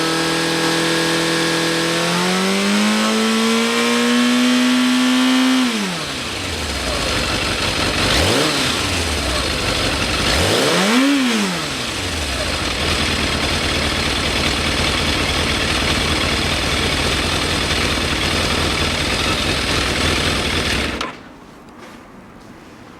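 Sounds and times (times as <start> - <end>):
motorcycle engine revving and idling: 0.0 - 21.2.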